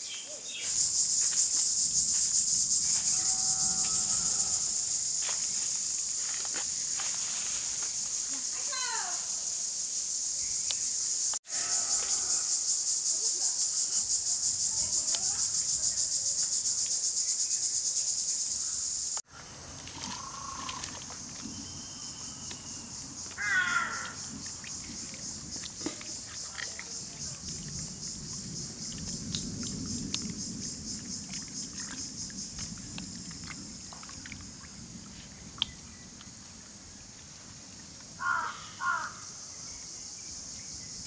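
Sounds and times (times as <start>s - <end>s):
insects buzzing: 0.0s - 41.0s.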